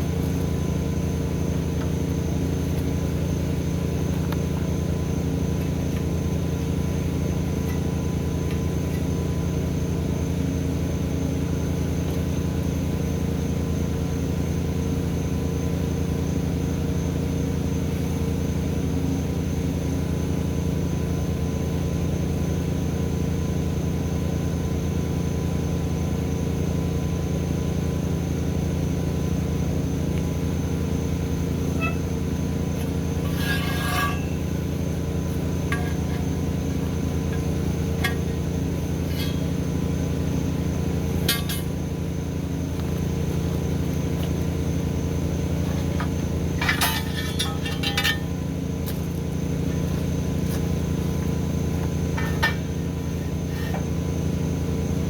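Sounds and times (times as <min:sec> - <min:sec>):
engine droning steadily: 0:00.0 - 0:55.0.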